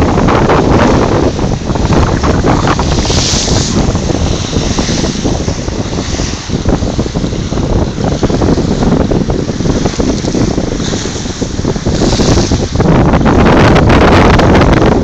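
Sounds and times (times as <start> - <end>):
waves splashing against sea wall: 0.0 - 15.0
wind buffeting microphone: 0.0 - 15.0.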